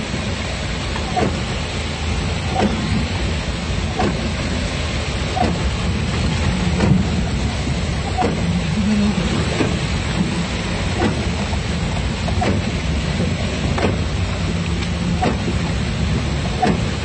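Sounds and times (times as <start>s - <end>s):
rain and water rushing: 0.0s - 17.0s
windshield wipers sweeping: 0.0s - 17.0s.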